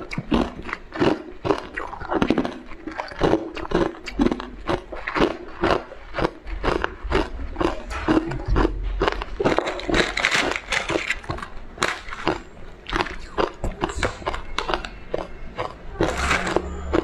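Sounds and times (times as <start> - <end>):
crunching ice: 0.0 - 17.0.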